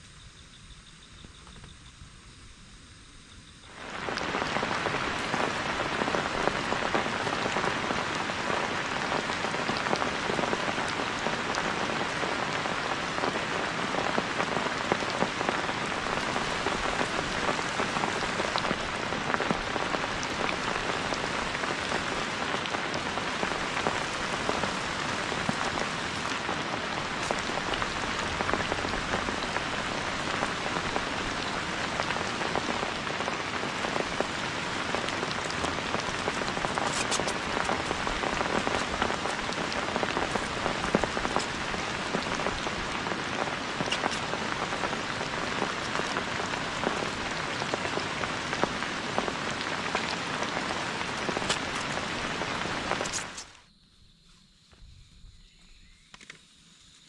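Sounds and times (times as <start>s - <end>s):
heavy rain: 3.6s - 53.6s.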